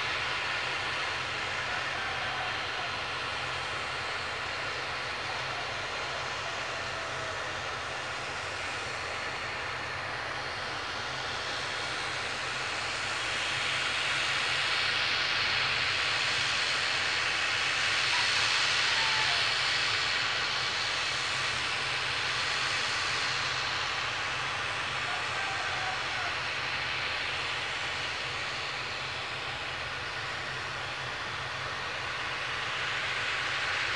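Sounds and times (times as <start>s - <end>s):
airplane engines running: 0.0s - 33.9s.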